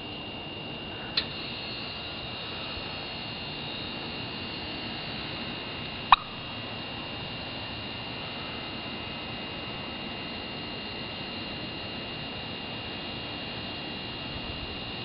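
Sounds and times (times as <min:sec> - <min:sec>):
steady hiss: 0:00.9 - 0:15.0.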